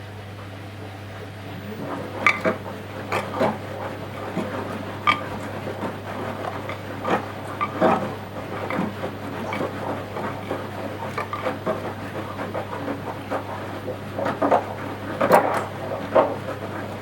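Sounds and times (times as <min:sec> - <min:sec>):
washing machine hum: 0:00.0 - 0:17.0
laundry tumbling and sloshing: 0:01.4 - 0:17.0.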